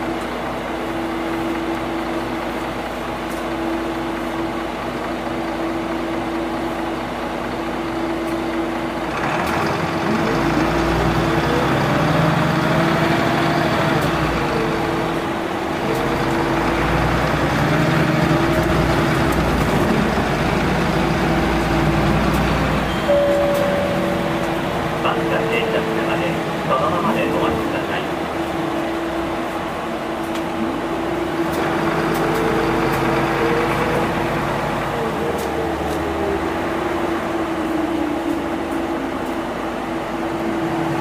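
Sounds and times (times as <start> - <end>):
diesel bus engine: 0.0 - 41.0.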